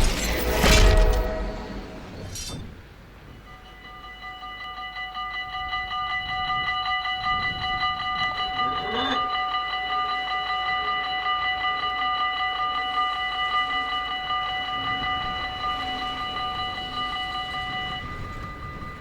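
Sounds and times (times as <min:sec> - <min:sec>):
level crossing bell ringing: 0:03.4 - 0:19.0.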